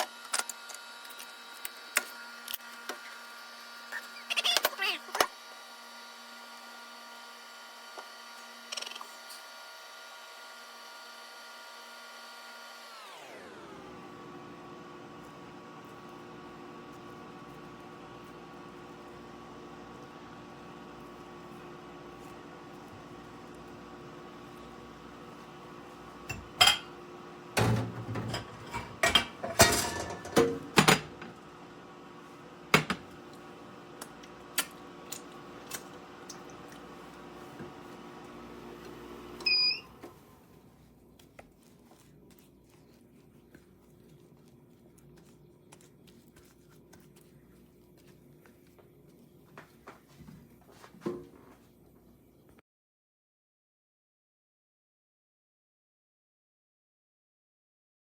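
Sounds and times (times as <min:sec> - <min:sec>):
ice cream maker humming: 0:00.0 - 0:49.6.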